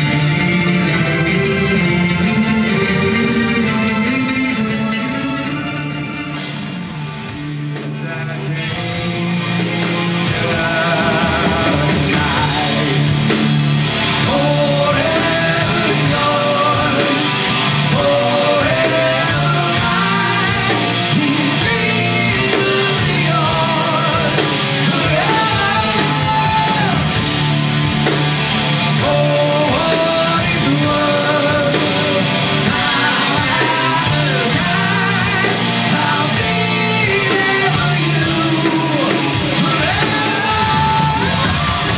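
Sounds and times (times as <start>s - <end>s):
bass guitar: 0.0s - 41.9s
drum kit: 0.0s - 41.9s
electric guitar: 0.0s - 41.9s
lead vocal singing: 0.0s - 41.9s.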